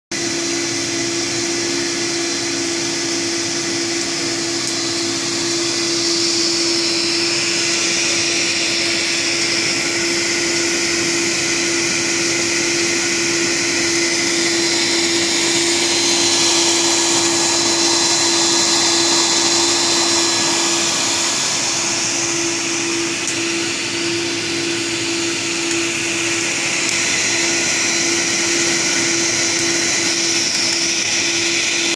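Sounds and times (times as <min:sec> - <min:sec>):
constant motor hum: 0:00.1 - 0:31.9
heat gun rushing air: 0:00.1 - 0:31.9.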